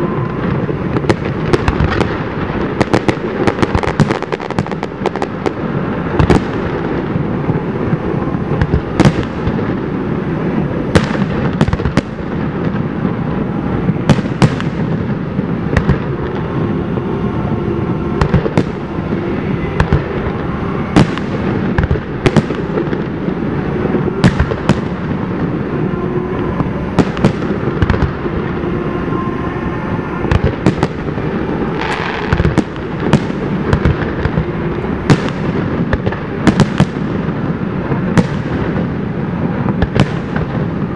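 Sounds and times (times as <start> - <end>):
continuous low rumble: 0.0 - 40.9
fireworks bursting with bangs: 0.0 - 40.9.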